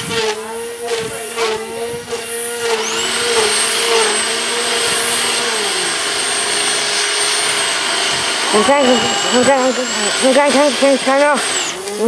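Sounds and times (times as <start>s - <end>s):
grass trimmer motor whining: 0.0s - 12.0s.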